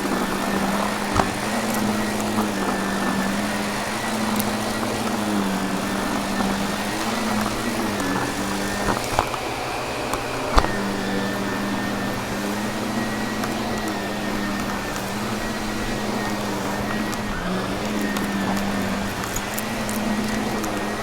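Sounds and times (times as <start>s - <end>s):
faint crackles: 0.0s - 21.0s
vacuum cleaner sucking debris: 0.0s - 21.0s.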